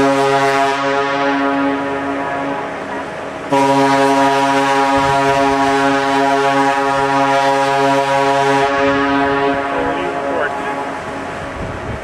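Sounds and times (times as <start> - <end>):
ship horn chord blast: 0.0 - 11.8.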